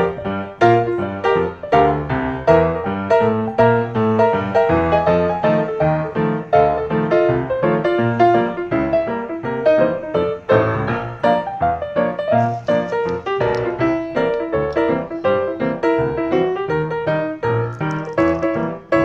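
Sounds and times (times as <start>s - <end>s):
piano background music: 0.0s - 19.0s.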